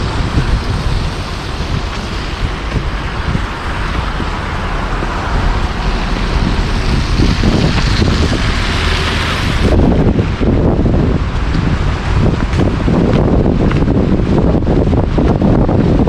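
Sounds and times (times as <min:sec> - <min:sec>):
city street traffic: 0:00.0 - 0:16.0
wind rumbling on microphone: 0:00.0 - 0:16.0.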